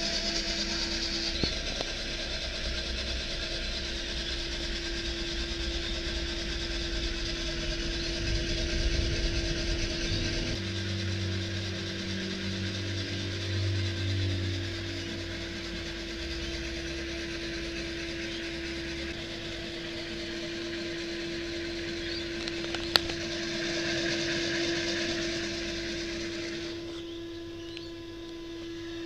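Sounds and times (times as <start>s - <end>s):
coffee roaster whooshing hiss: 0.0s - 29.0s
deeper hum: 0.0s - 29.0s
mid-pitched hum: 0.0s - 29.0s.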